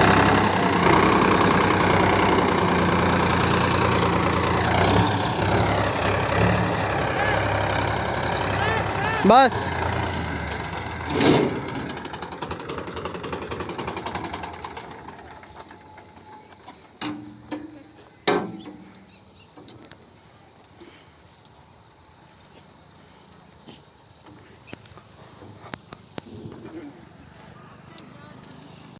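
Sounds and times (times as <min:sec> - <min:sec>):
insects trilling: 0:00.3 - 0:28.9.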